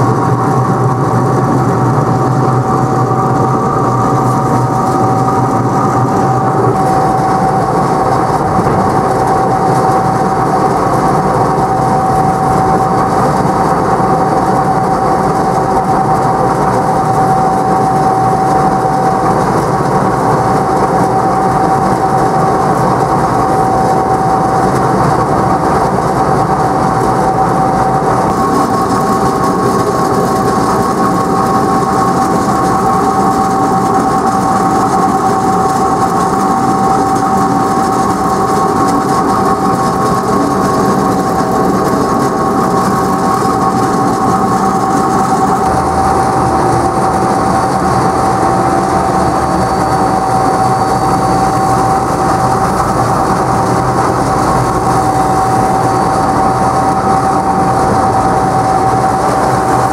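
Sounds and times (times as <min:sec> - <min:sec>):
higher machine whine: 0:00.0 - 0:59.9
mill mechanical drone: 0:00.0 - 0:59.9
steady machine whine: 0:00.0 - 0:59.9.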